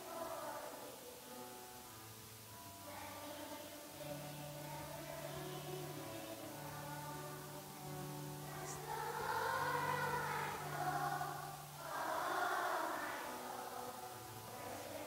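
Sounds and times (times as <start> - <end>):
choir singing: 0.0 - 1.9, 2.5 - 15.0.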